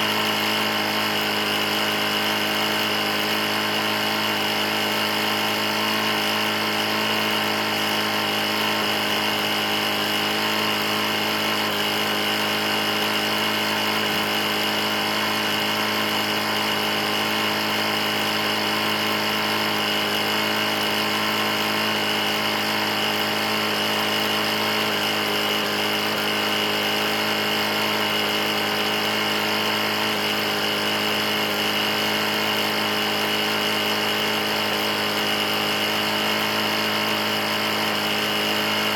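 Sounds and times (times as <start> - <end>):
engine knocking: 0.0 - 38.9
mower engine drone: 0.0 - 38.9.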